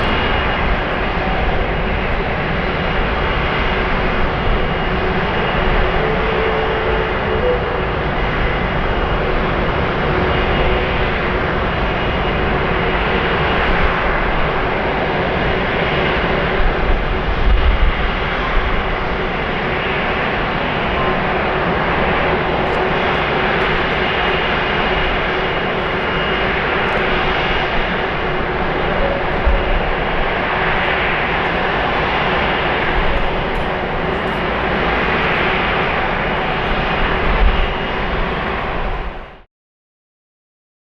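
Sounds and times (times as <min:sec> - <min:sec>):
jet engines at takeoff power: 0:00.0 - 0:39.5.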